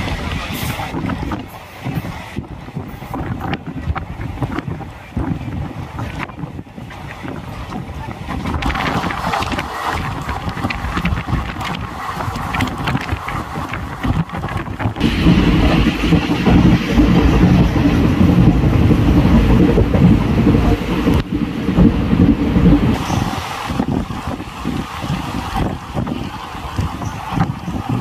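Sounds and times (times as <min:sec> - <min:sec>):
heavy train rumble: 0:00.0 - 0:28.0
train running at speed: 0:00.0 - 0:28.0
wind buffeting microphone: 0:00.0 - 0:28.0.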